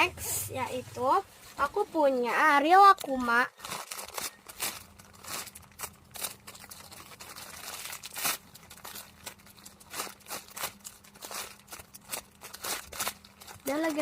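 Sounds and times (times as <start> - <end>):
foam toy rustling and crinkling: 0.0 - 14.0.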